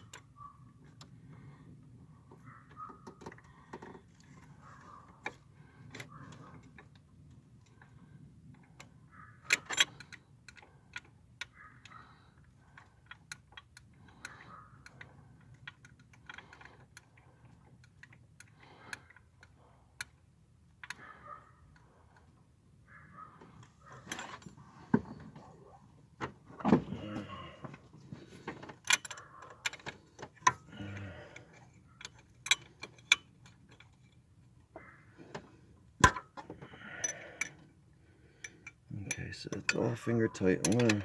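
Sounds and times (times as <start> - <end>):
metallic clicks of bolts and nuts: 2.3 - 4.6, 5.2 - 22.5, 23.4 - 24.6, 28.1 - 41.0.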